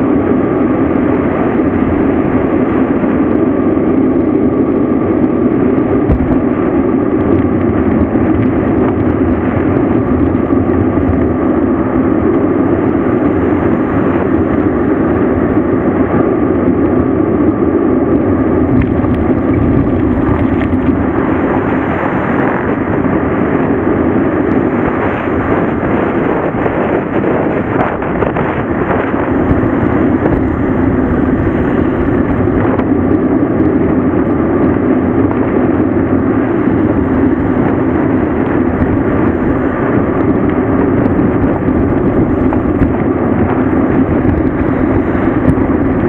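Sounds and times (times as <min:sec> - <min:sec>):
bike tyre rumble: 0:00.0 - 0:46.0
wind roaring on microphone: 0:00.0 - 0:46.0.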